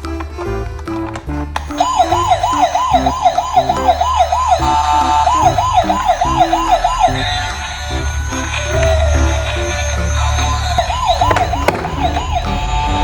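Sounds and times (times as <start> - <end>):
electronic siren warbling: 1.6 - 13.0.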